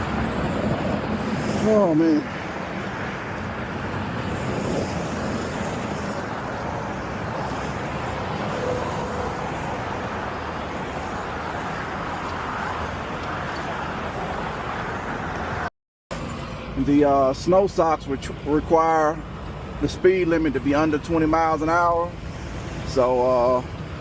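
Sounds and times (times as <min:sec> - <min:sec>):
road noise hiss: 0:00.0 - 0:24.0.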